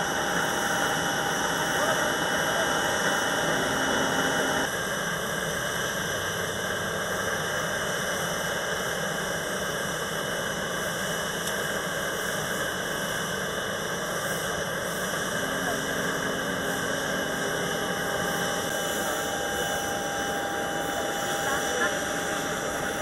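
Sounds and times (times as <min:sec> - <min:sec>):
jet turbine whine and hum: 0:00.0 - 0:23.0.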